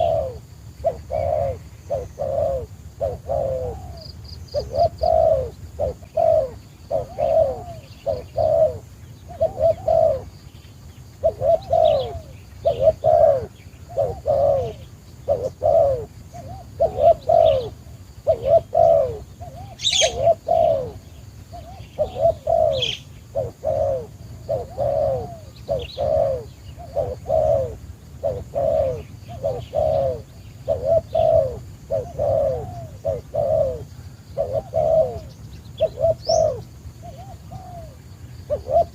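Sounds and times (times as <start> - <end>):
dove cooing: 0.0 - 38.9
small birds chirping: 0.0 - 38.9.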